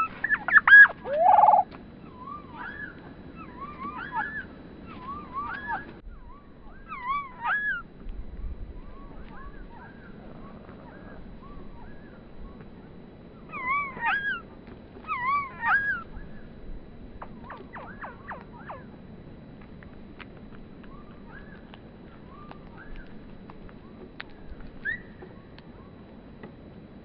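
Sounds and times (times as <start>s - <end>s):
small birds calling: 0.0s - 16.6s, 17.2s - 19.0s, 20.8s - 26.0s.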